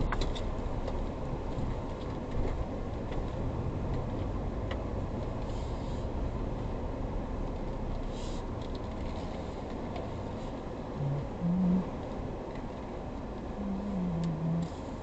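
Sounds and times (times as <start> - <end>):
tyres and engine rumble: 0.0 - 15.0.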